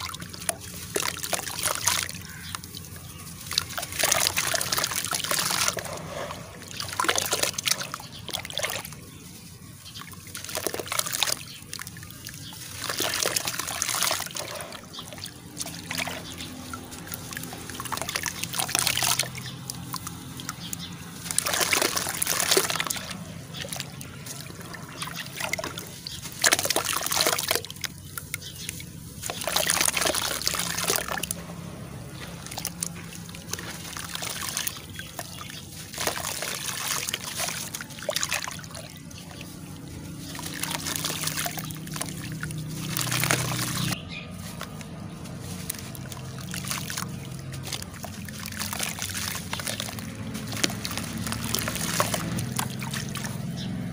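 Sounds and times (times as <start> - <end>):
water sloshing and splashing: 0.0 - 53.9
water trickling: 0.0 - 53.9.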